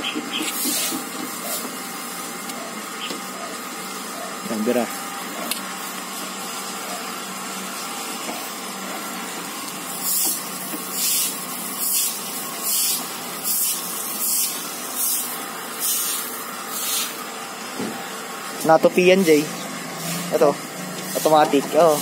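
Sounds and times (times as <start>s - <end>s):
sprayer squirting bursts: 0.0s - 4.1s, 4.9s - 22.0s.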